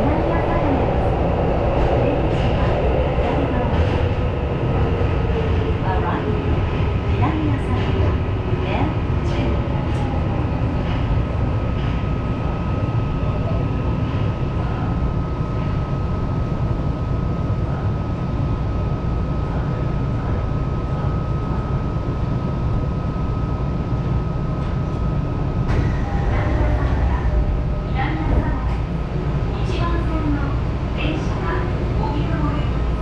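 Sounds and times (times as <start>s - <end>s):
subway train rumbling on rails: 0.0s - 33.0s.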